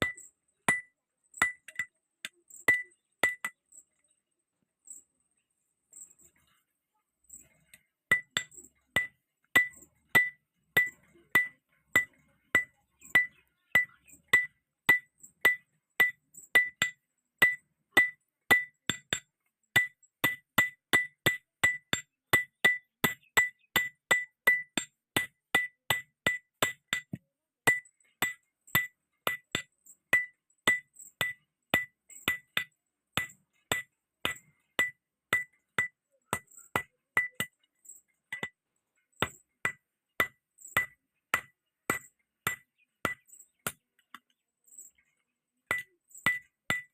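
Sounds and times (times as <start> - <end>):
hammer striking steel on anvil: 0.0 - 3.6, 7.6 - 37.6, 38.3 - 38.6, 39.2 - 44.2, 45.7 - 46.9.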